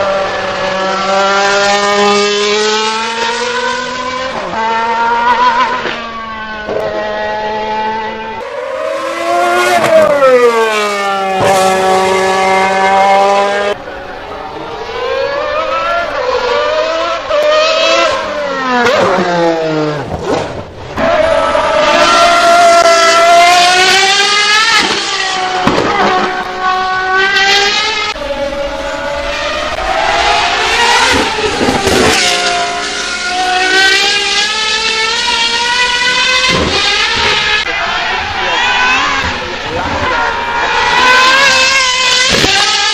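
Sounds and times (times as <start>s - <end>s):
racing car engine revving: 0.0s - 42.9s.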